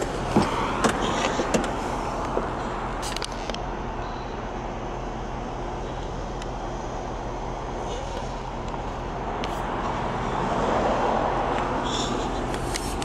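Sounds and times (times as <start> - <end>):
engine idling: 0.0 - 13.0
outdoor traffic noise: 0.0 - 13.0.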